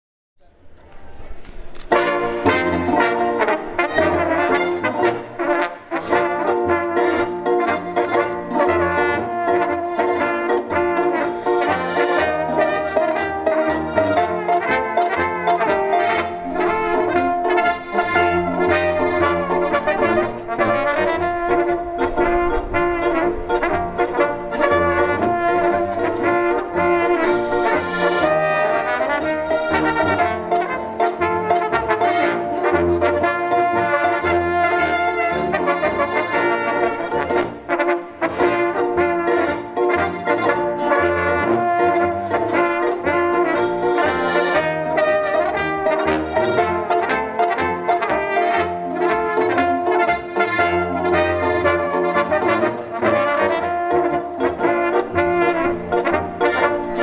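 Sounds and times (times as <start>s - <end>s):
trumpets: 0.4s - 57.0s
folk brass ensemble playing: 1.0s - 57.0s.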